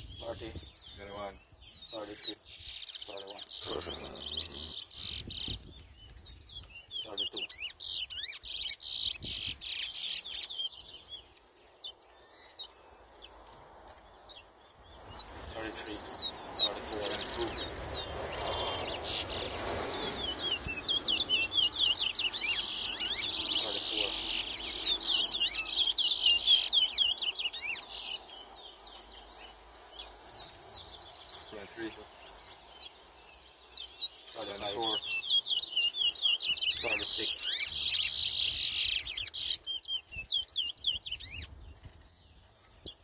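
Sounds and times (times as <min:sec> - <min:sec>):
finch singing: 0:00.0 - 0:43.0.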